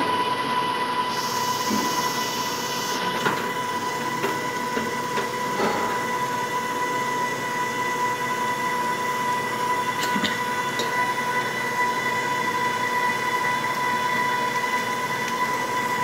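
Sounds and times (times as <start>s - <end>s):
stand mixer whining: 0.0s - 16.0s.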